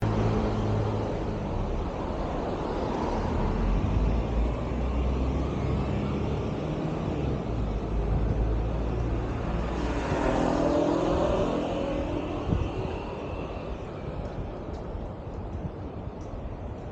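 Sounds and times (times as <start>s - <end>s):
vehicles passing with low rumble: 0.0s - 16.9s.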